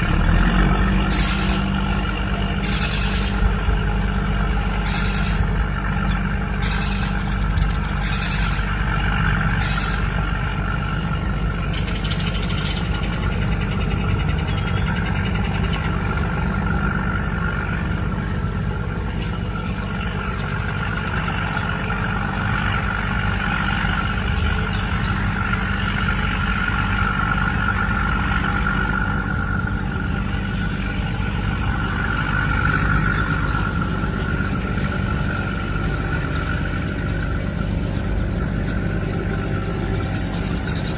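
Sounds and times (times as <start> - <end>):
ship diesel engines droning: 0.0 - 40.9.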